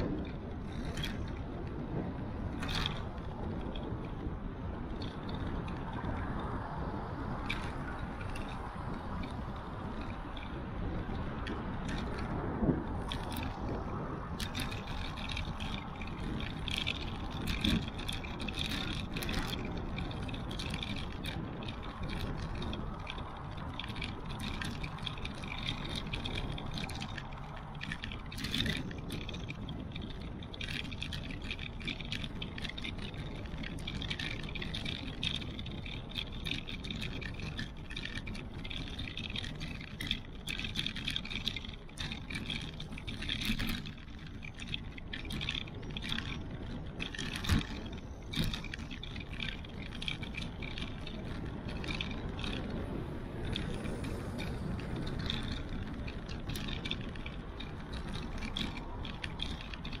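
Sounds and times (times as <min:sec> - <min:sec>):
bike clicks and rattles: 0:00.0 - 1:00.0
wind and tyre rumble: 0:00.0 - 1:00.0.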